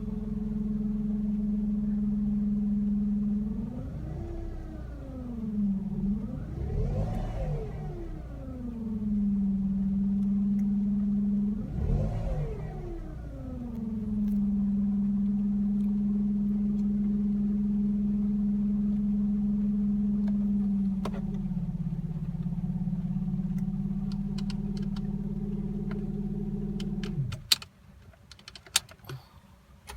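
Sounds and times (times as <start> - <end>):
car engine idling: 0.0 - 27.6.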